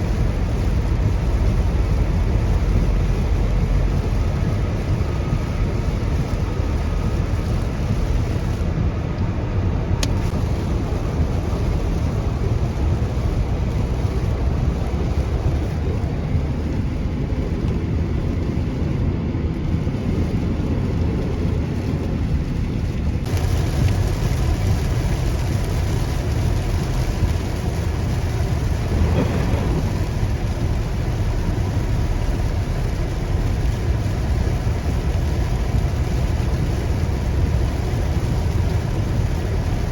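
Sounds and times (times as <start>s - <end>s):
car tyre and road rumble: 0.0s - 39.9s
rain hissing: 0.0s - 39.9s.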